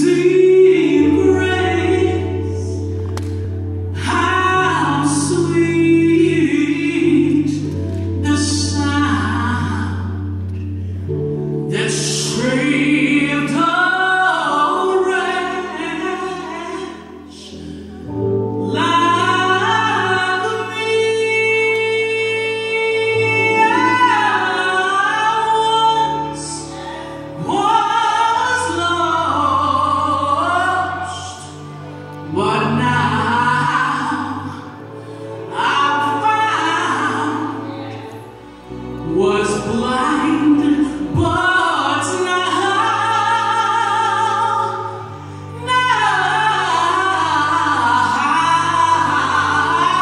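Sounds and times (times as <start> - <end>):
woman singing gospel song: 0.0 - 10.5, 11.6 - 50.0
low accompaniment chords: 0.0 - 50.0.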